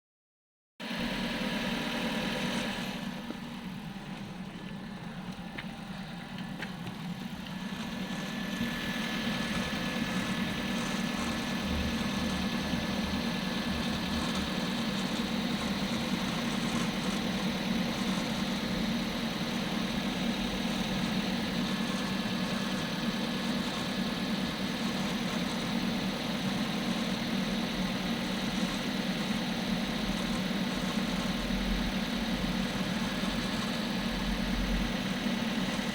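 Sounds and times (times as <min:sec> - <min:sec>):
thin steady whine: 0:00.8 - 0:35.9
car engine idling: 0:00.9 - 0:35.9
gearbox grinding: 0:02.2 - 0:35.9.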